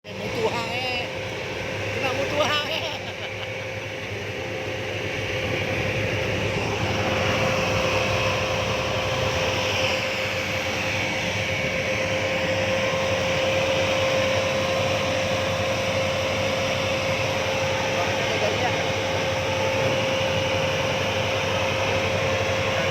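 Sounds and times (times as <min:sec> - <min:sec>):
machine engine droning with whine: 0:00.0 - 0:22.9.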